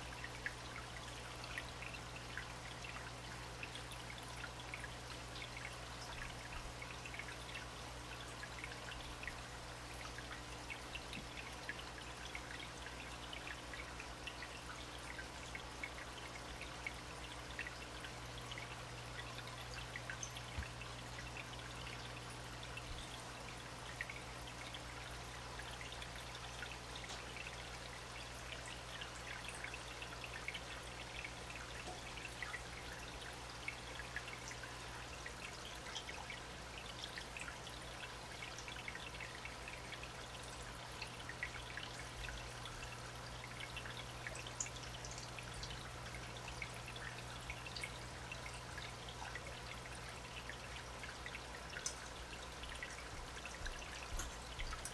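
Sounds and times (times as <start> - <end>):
low steady hum: 0.0 - 54.9
running water trickling: 0.0 - 54.9
water drips: 0.0 - 54.9.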